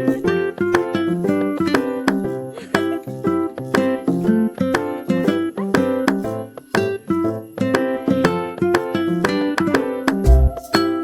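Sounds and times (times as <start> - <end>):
plucked string instrument: 0.0 - 11.0.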